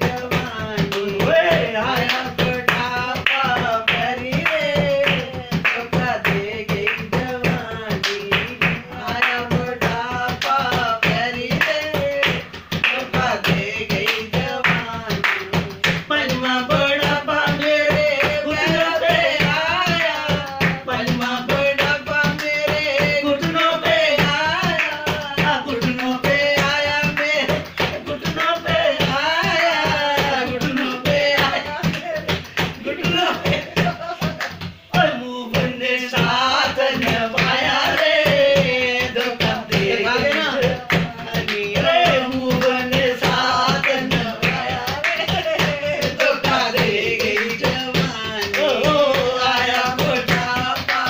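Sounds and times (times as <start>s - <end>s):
fast percussive beat: 0.0s - 51.0s
woman singing: 0.0s - 51.0s.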